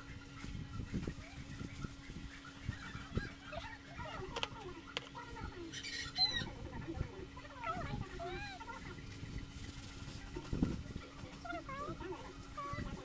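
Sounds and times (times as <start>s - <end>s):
bird-like calls: 0.0s - 13.0s.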